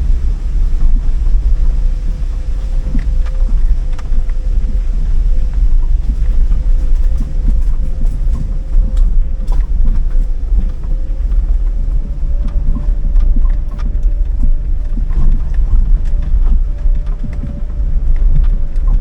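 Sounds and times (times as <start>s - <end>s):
faint steady hum: 0.0s - 19.0s
strong wind buffeting microphone: 0.0s - 19.0s.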